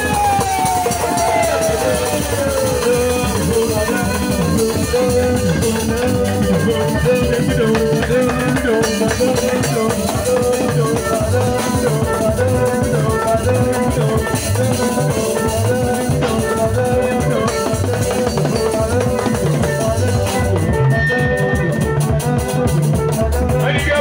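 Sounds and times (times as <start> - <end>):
drums: 0.0 - 24.0.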